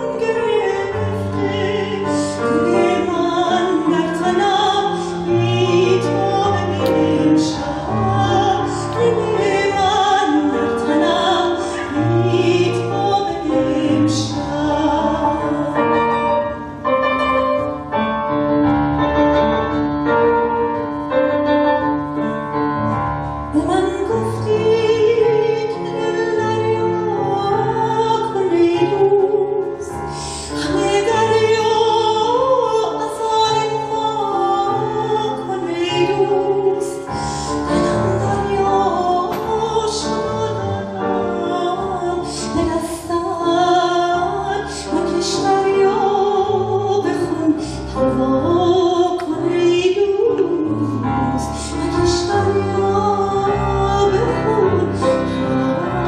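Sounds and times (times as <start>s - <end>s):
woman singing with vibrato: 0.0s - 16.8s, 23.5s - 56.0s
grand piano: 0.0s - 56.0s.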